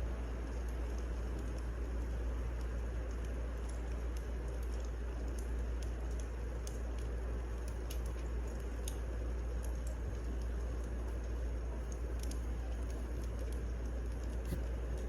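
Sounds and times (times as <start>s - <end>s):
fire low rumble and hiss: 0.0s - 15.0s
wood fire crackling and popping: 0.0s - 15.0s.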